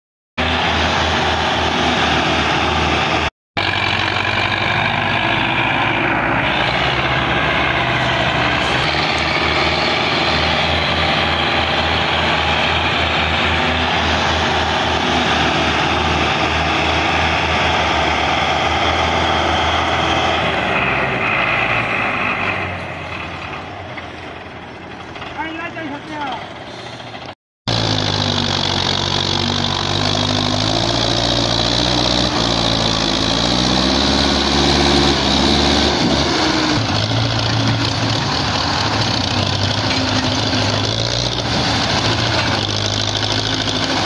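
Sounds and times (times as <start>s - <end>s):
tractor diesel engine labouring: 0.4s - 44.0s.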